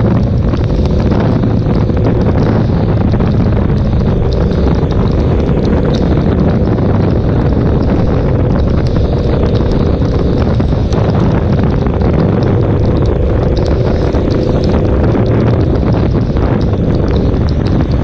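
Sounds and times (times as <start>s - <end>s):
motorcycle engine cruising: 0.0s - 18.0s
rain ticking on camera: 0.0s - 18.0s
wind noise on microphone: 0.0s - 18.0s.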